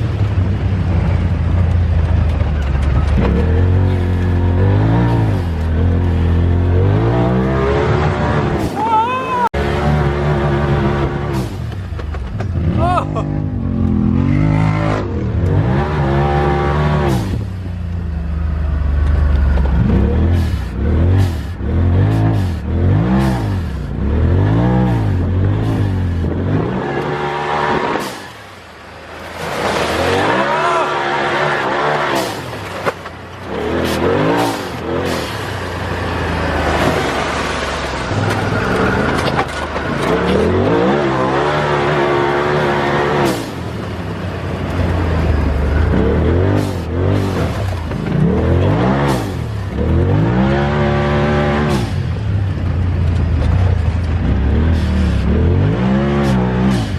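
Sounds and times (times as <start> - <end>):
utility vehicle engine revving: 0.0 - 56.9.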